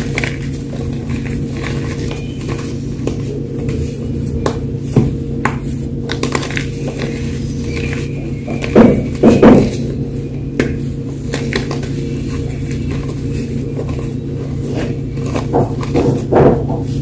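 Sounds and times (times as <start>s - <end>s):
chalk crunching: 0.0s - 16.3s
low hum: 0.0s - 17.0s.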